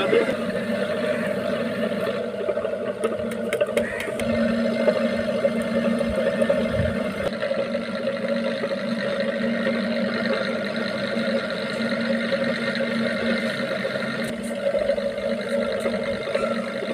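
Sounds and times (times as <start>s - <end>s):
steady mechanical hum: 0.0s - 16.9s.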